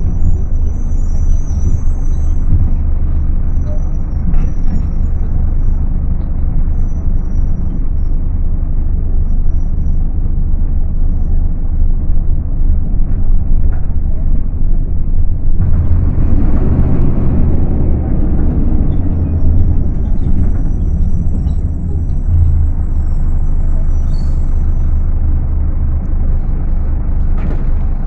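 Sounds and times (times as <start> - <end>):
bus diesel engine running: 0.0 - 28.0
road noise: 0.0 - 28.0.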